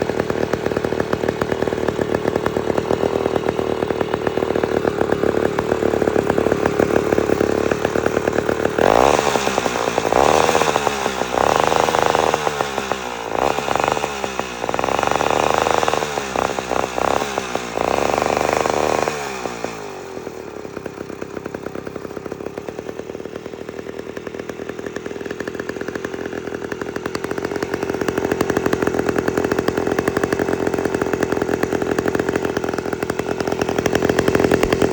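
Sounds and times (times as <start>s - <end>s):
saw engine running and revving: 0.0s - 34.9s.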